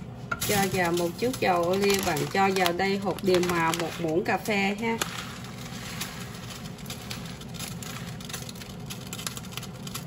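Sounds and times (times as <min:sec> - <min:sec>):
steady low hum: 0:00.0 - 0:10.0
spoon scooping seeds from plastic packet: 0:00.4 - 0:10.0.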